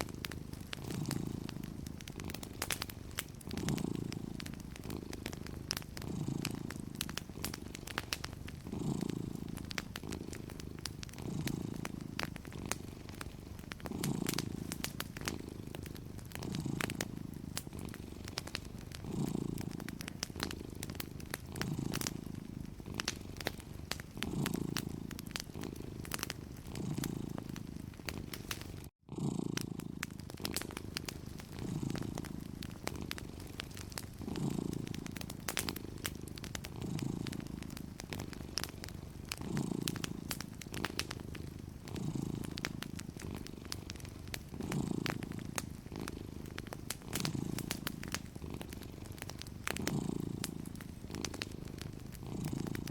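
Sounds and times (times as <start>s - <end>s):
cat purring: 0.0s - 52.9s
wood fire crackling and popping: 0.0s - 52.9s.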